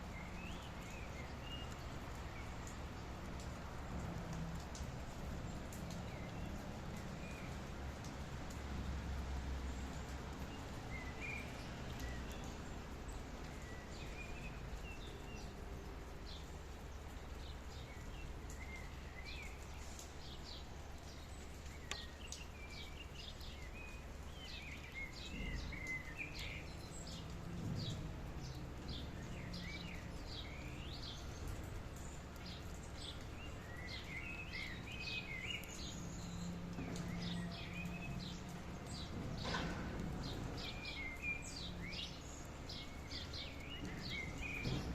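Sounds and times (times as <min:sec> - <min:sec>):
small birds chirping: 0:00.0 - 0:03.6, 0:09.7 - 0:44.9
rain hiss: 0:00.0 - 0:44.9.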